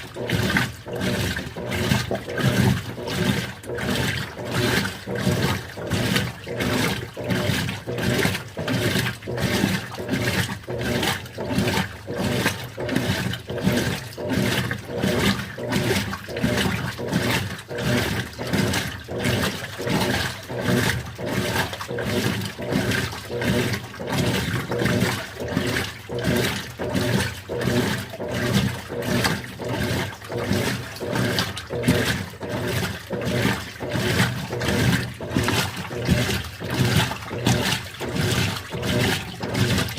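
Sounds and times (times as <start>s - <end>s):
washing machine low hum: 0.0s - 39.9s
water sloshing in washing machine: 0.0s - 39.9s.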